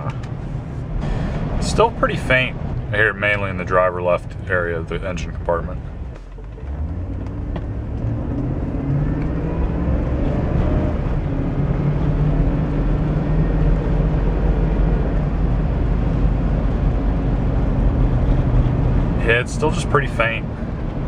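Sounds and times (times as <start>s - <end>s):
faint engine whine: 0.0s - 21.0s
truck engine and road noise: 0.0s - 21.0s.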